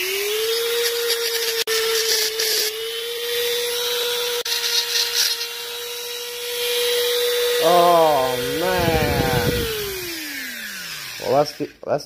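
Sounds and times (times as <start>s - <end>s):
rotary tool whining: 0.0s - 11.8s.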